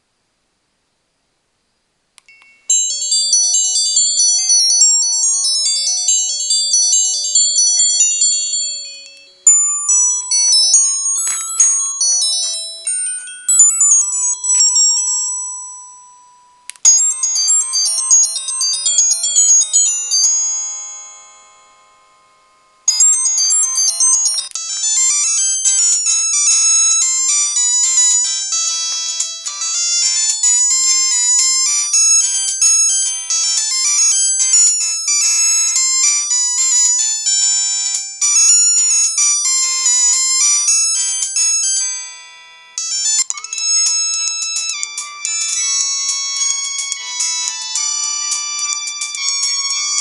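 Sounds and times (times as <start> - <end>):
polyphonic phone ringtones: 2.3 - 21.4, 22.9 - 50.0.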